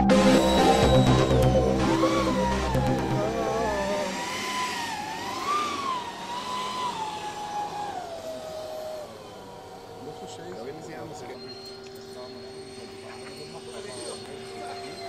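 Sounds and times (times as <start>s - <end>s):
model jet fans whining: 0.0s - 15.0s.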